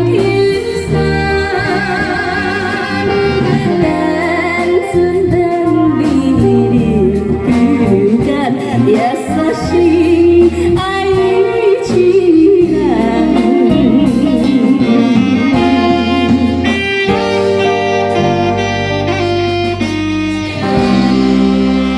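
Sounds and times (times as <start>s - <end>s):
woman singing with vibrato: 0.0s - 18.2s
backing music chords: 0.0s - 21.9s.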